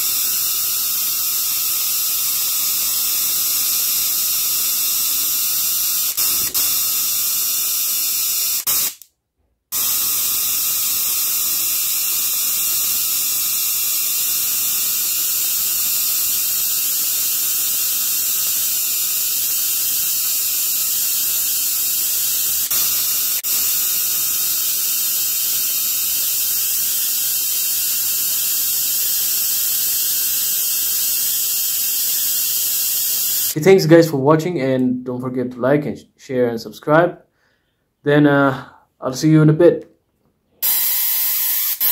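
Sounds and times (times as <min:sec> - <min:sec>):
tesla coil electrical hiss: 0:00.0 - 0:09.0, 0:09.8 - 0:33.6, 0:40.6 - 0:41.9.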